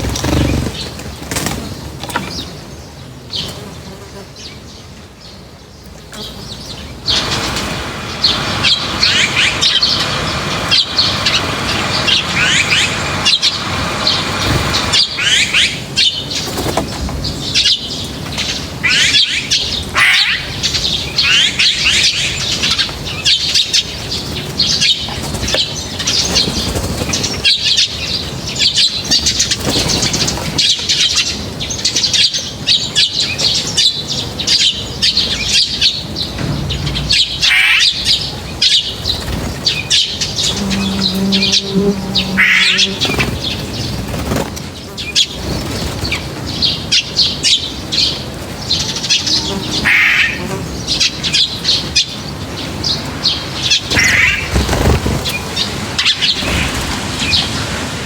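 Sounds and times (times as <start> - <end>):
flock of small birds chirping: 0.0 - 58.0.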